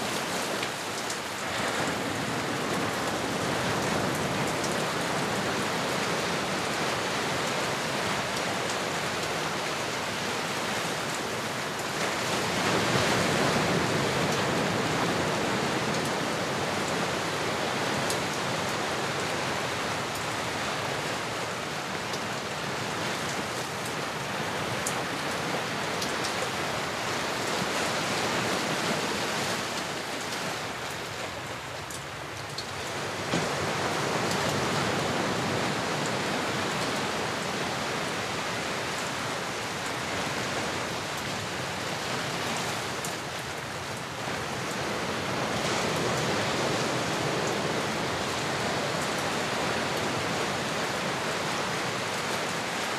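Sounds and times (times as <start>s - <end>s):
ocean waves: 0.0s - 52.9s.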